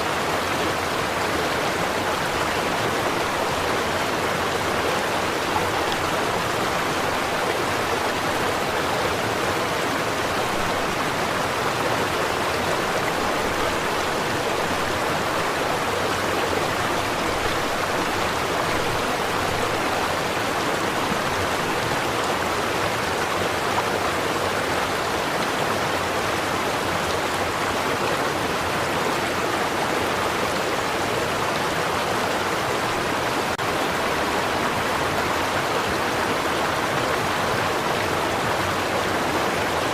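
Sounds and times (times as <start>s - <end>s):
water babbling over rocks: 0.0s - 39.9s.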